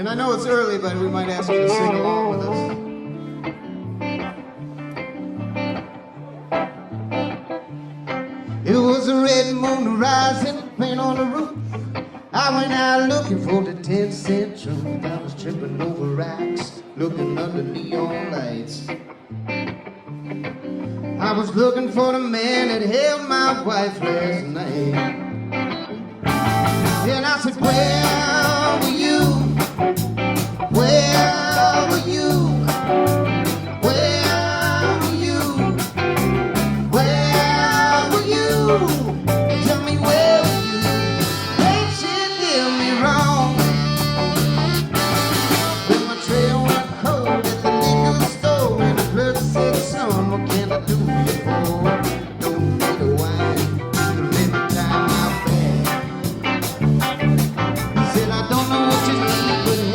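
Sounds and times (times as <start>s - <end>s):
bending electric guitar lead: 0.0s - 59.9s
live rock band playing: 0.0s - 59.9s.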